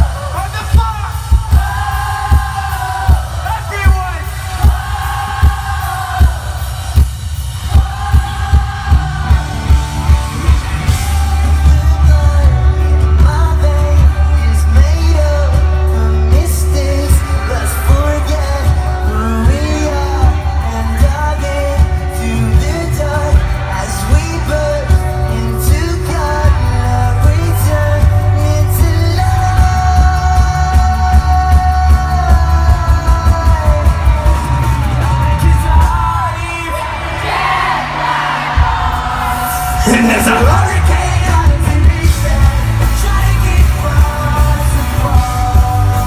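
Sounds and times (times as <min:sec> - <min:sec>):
drum beat: 0:00.0 - 0:37.7, 0:38.5 - 0:46.0
heavy bass: 0:00.0 - 0:46.0
lead vocal singing: 0:00.0 - 0:46.0.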